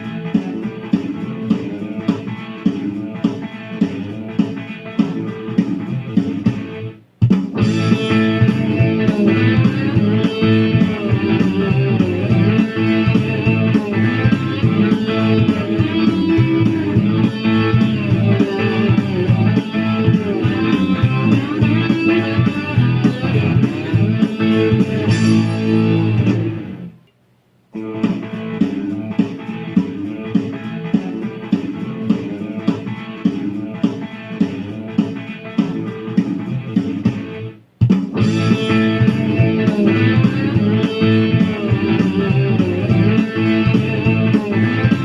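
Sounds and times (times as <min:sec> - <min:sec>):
plucked string background music: 0:00.0 - 0:27.0, 0:27.8 - 0:37.5, 0:38.1 - 0:45.0.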